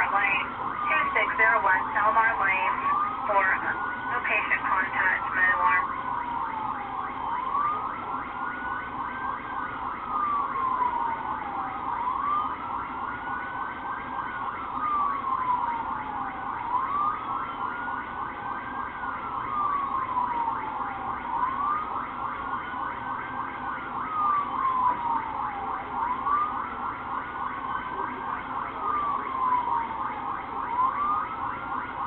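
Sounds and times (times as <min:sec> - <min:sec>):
police siren wailing: 0:00.0 - 0:32.0.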